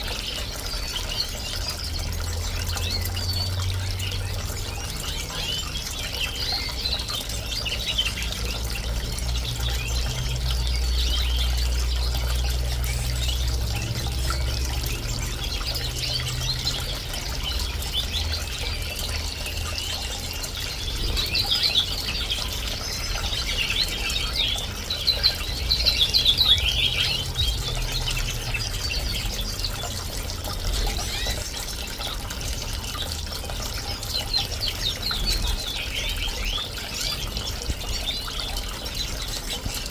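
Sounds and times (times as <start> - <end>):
birds chirping and singing: 0.0 - 39.9
fountain splashing and trickling: 0.0 - 39.9.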